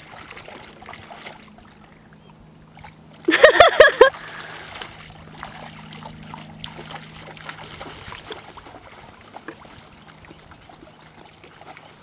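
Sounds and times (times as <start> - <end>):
lake water splashing around dogs: 0.0 - 12.0.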